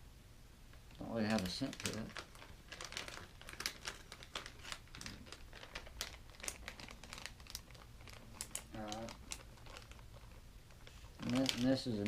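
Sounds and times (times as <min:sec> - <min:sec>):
plastic packaging crinkling: 0:00.7 - 0:12.0.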